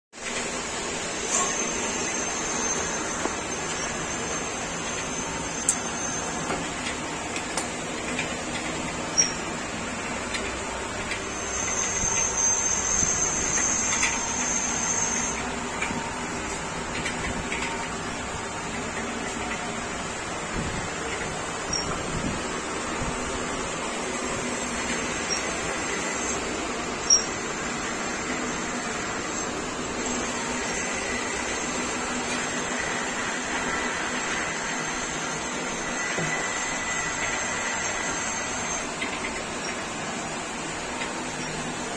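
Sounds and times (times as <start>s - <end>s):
machine motor humming: 0.2s - 41.9s
thin high whine: 0.2s - 41.9s.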